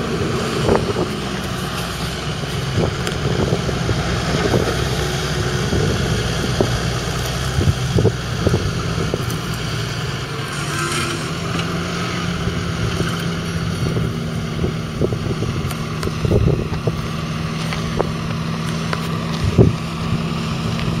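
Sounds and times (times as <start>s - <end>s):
wind buffeting microphone: 0.0s - 10.5s, 11.3s - 21.0s
tractor diesel engine under load: 0.0s - 21.0s.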